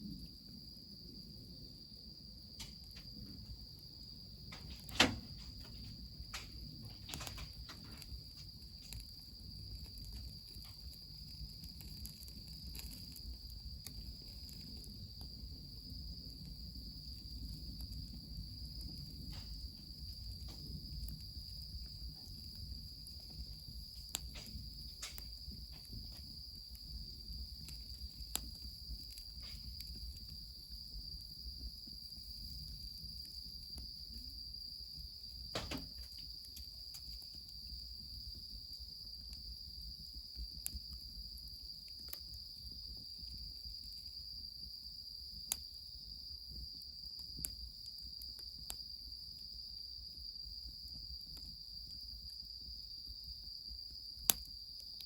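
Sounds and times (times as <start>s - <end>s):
insects trilling: 0.0s - 55.0s
wood fire crackling and popping: 1.8s - 55.0s.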